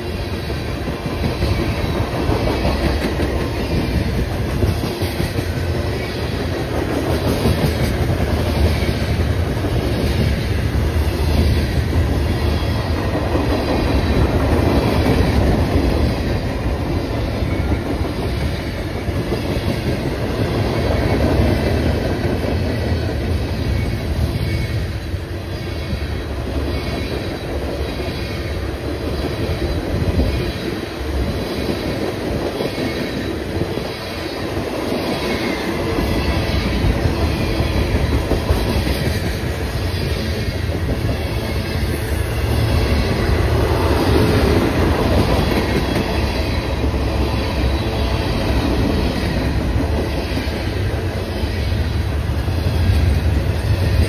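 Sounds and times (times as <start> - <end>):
high squealing of train wheels: 0.0 - 54.0
train wheels rumbling on rails: 0.0 - 54.0.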